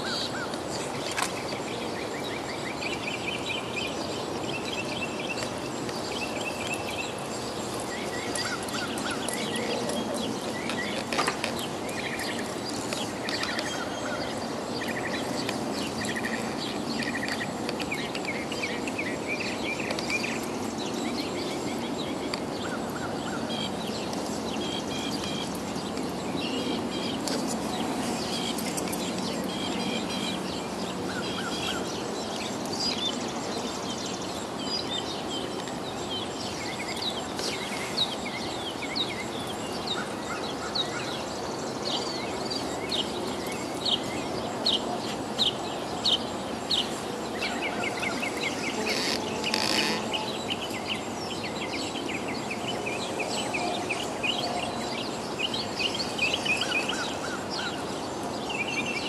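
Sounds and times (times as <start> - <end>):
birds chirping: 0.0 - 59.0
steady background hiss: 0.0 - 59.0.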